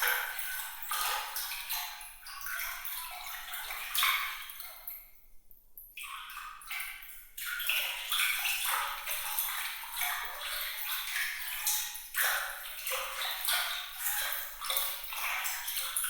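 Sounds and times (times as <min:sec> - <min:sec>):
water trickling and splashing: 0:00.0 - 0:05.1, 0:06.0 - 0:16.0.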